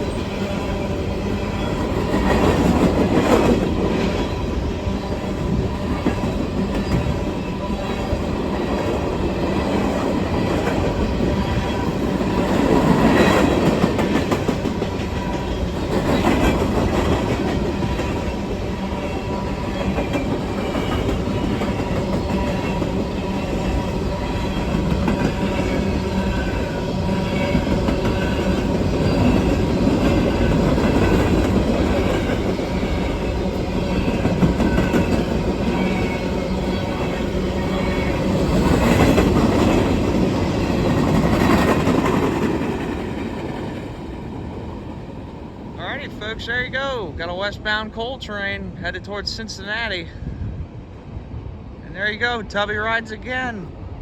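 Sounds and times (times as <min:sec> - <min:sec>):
train wheels clattering on rails: 0:00.0 - 0:45.0.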